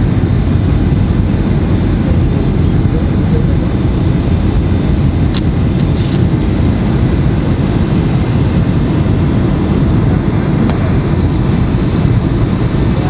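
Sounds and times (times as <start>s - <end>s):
aircraft engine and cabin rumble: 0.0s - 13.0s.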